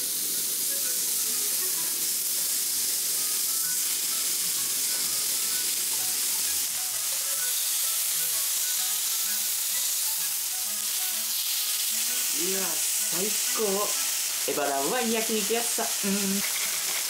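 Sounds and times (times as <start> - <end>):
meat sizzling on a grill: 0.0 - 17.0
light background music: 0.1 - 17.0.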